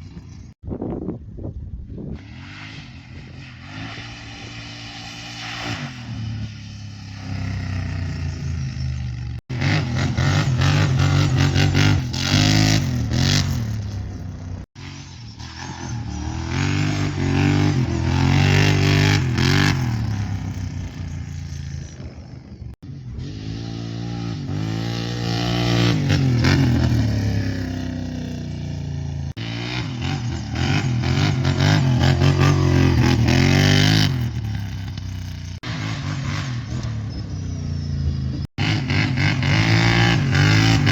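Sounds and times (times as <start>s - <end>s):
atv engine revving: 2.2s - 40.9s.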